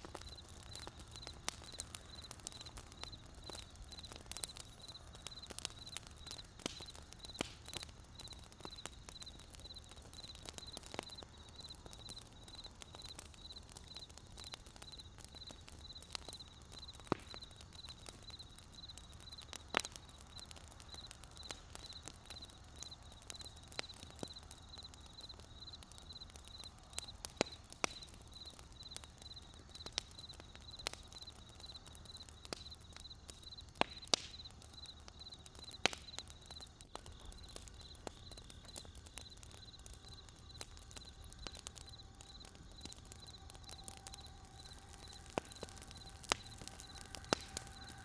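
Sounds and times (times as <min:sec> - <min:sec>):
campfire crackling and popping: 0:00.0 - 0:48.0
faint hum of steady tones: 0:00.0 - 0:48.0.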